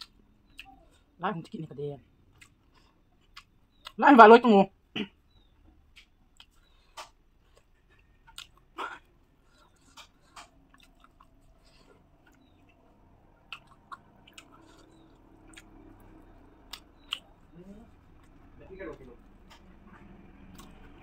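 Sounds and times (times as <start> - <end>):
person chewing: 0.0 - 1.1, 2.3 - 4.0, 5.9 - 18.5, 19.3 - 21.0.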